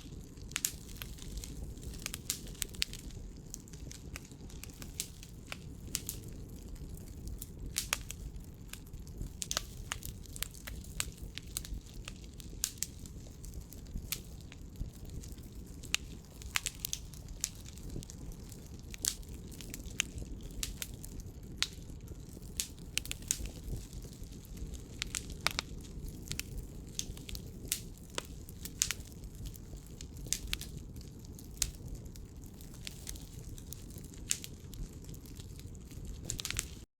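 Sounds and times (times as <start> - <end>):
firewood crackling and popping: 0.0 - 36.9.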